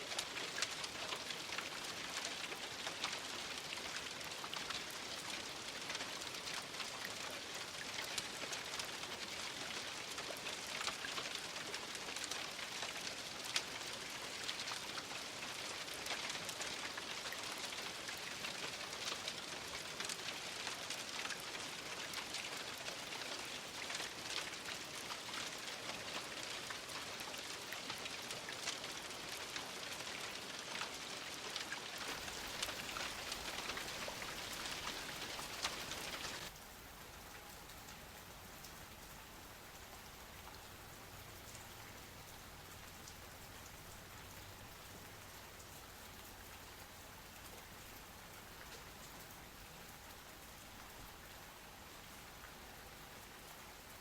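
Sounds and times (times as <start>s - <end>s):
rain pattering on a surface: 0.0s - 54.0s.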